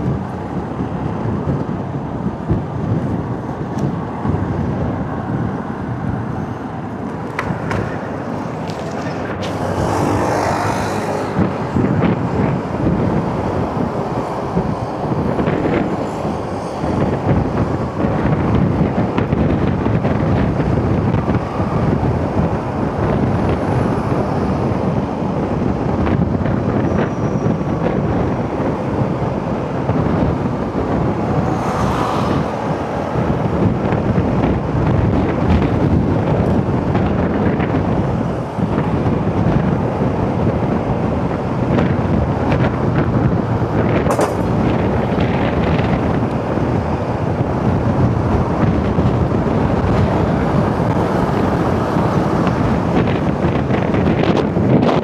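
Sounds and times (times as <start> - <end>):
motorcycle engine and road noise: 0.0 - 55.0
wind rushing over microphone: 0.0 - 55.0.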